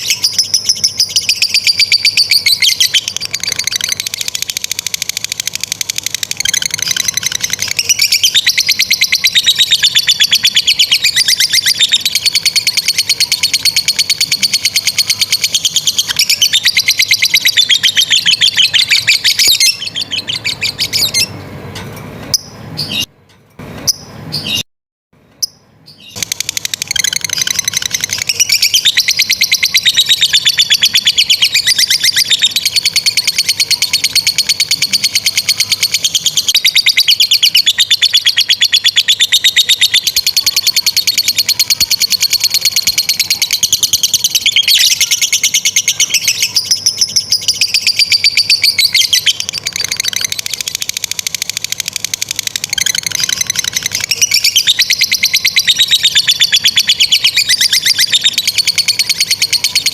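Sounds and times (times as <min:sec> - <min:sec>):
bird chattering trill: 0:00.0 - 0:21.4, 0:25.4 - 0:59.9.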